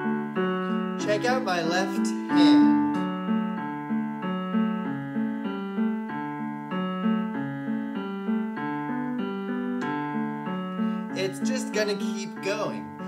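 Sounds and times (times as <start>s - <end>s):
piano accompaniment pattern: 0.0s - 13.0s.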